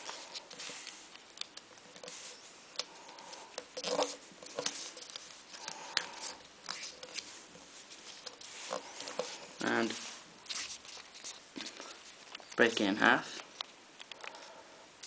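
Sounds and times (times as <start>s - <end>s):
paper crinkling and creasing: 0.0s - 14.5s.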